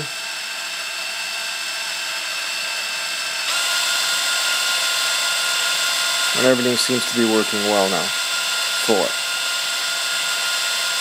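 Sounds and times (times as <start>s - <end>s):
cordless drill whirring: 0.0s - 11.0s.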